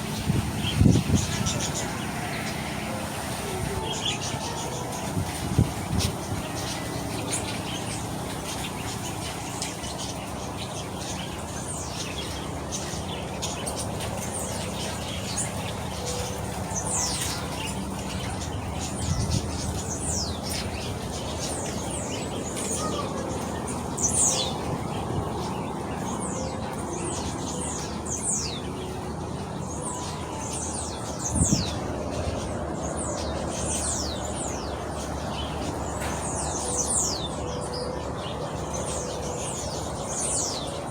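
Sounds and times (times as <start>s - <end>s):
many birds chirping: 0.0s - 40.9s.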